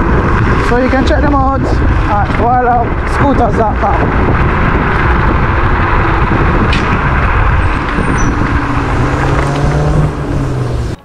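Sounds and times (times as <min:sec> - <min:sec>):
wind and road rush: 0:00.0 - 0:11.0.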